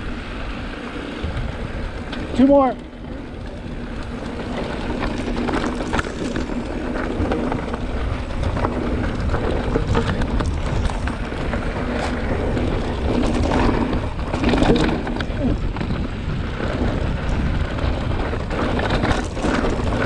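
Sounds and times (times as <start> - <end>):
bike knocking and rattling: 0.0 - 20.0
tyres rumbling over dirt: 0.0 - 20.0.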